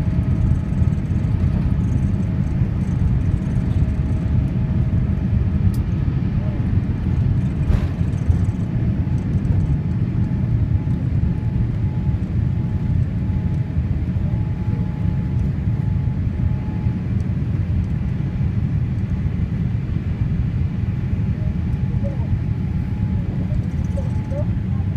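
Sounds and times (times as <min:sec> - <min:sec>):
airliner engines rumbling in cabin: 0:00.0 - 0:24.9.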